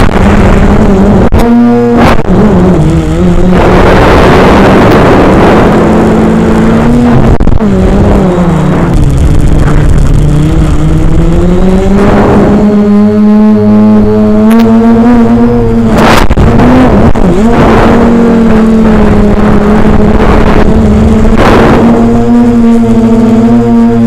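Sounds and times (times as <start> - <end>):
drone motors whining: 0.0 - 24.0
wind rush on microphone: 0.0 - 24.0.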